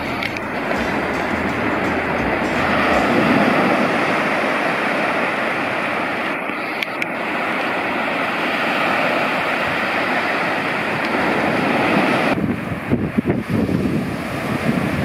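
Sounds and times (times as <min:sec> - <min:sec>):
small waves breaking: 0:00.0 - 0:15.0.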